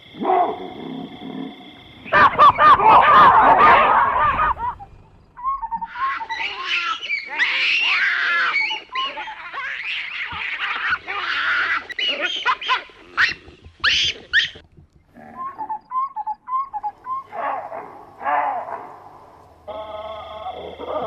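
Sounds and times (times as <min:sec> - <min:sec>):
baboons calling: 0:00.0 - 0:21.0.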